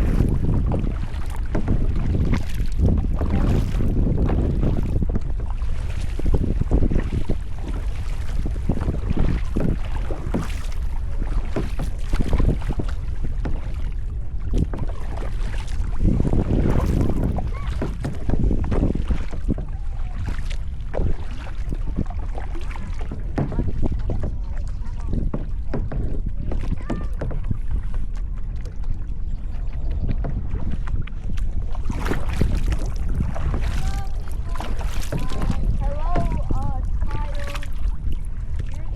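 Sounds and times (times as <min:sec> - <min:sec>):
paddle splashing in water: 0:00.0 - 0:38.9
wind rumble on microphone: 0:00.0 - 0:38.9.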